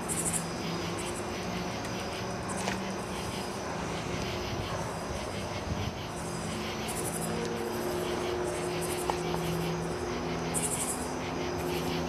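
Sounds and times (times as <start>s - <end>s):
night insects chirping: 0.0s - 12.0s
steady low hum: 0.0s - 12.0s.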